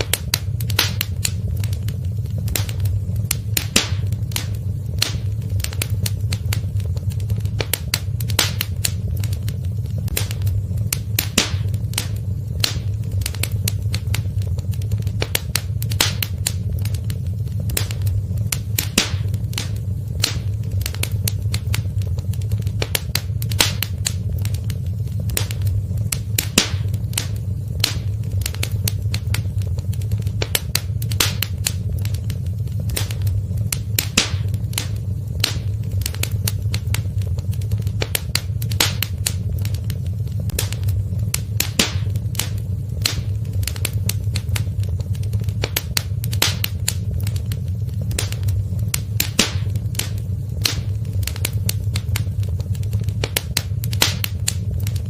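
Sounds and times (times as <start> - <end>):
fire crackling and popping: 0.0 - 55.0
fire low rumble: 0.0 - 55.0.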